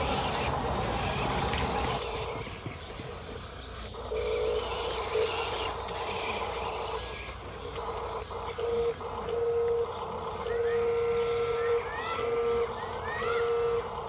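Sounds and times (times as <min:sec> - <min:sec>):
toy bulldozer motor whine: 0:00.0 - 0:14.0.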